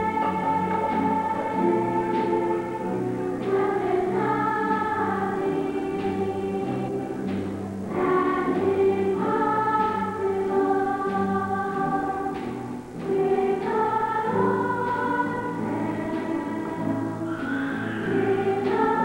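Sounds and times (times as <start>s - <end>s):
choir singing long notes: 0.0s - 19.0s.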